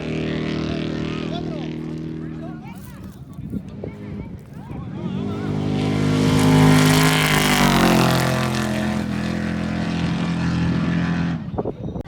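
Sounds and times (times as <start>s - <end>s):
race vehicle engine passing by: 0.0s - 11.8s.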